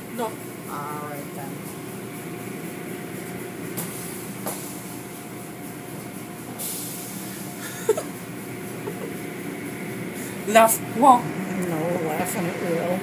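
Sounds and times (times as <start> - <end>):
car wash machinery rumble: 0.0 - 13.0.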